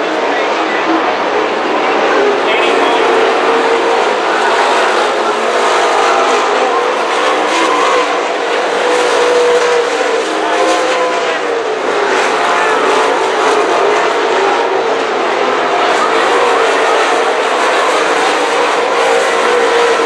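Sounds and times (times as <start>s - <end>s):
race car engines at high revs: 0.0s - 20.0s.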